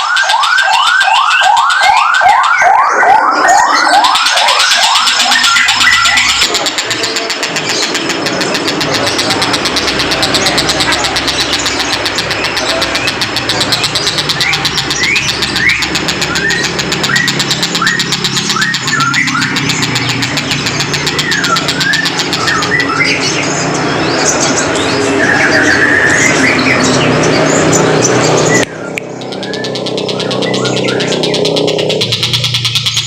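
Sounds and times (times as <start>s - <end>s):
kingfisher calling: 3.7s - 33.0s
engine humming: 5.3s - 33.0s.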